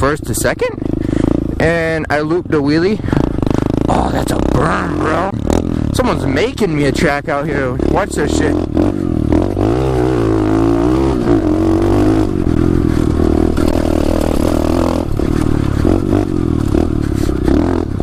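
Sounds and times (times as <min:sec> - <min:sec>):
pit bike engine revving: 0:00.0 - 0:18.0.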